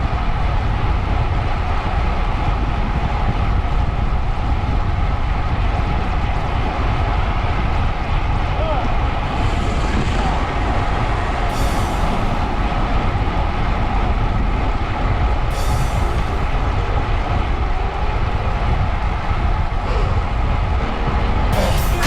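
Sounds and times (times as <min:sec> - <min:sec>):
rushing wind noise: 0:00.0 - 0:22.0
vehicle engine rumble: 0:02.9 - 0:22.0.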